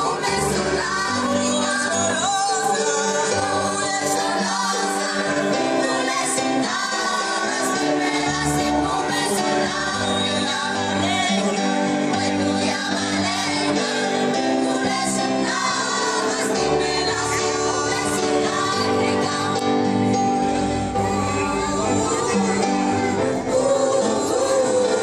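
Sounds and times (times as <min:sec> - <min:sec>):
electric keyboard accompaniment: 0:00.0 - 0:25.0
mixed choir singing: 0:00.0 - 0:25.0.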